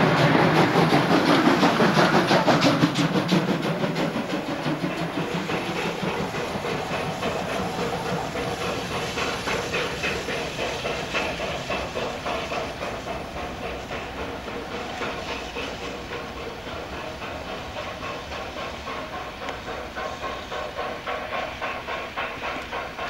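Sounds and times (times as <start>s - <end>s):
steam locomotive hissing: 0.0s - 23.0s
train wheels clattering: 0.0s - 23.0s.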